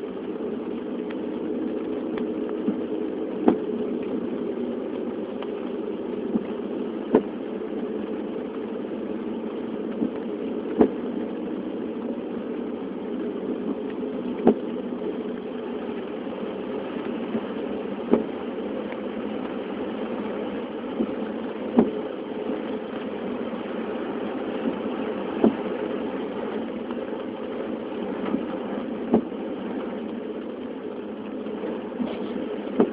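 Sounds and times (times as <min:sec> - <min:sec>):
steady low drone: 0:00.0 - 0:32.9.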